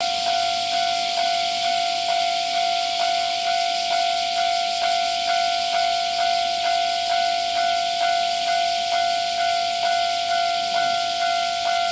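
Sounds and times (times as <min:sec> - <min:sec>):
level crossing warning bell ringing: 0:00.0 - 0:11.9.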